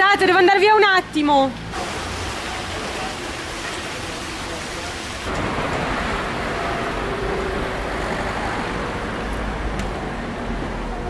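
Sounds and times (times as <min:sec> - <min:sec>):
cars driving along street: 0:00.0 - 0:11.0.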